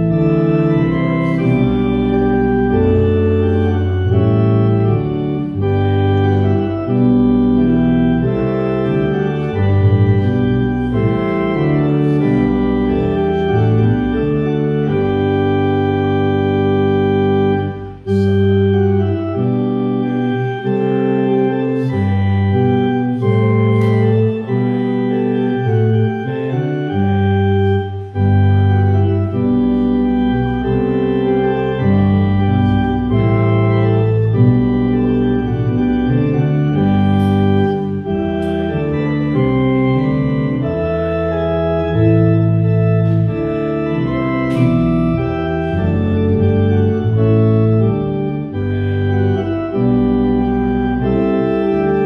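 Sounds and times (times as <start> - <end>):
church organ chords: 0.0 - 52.0.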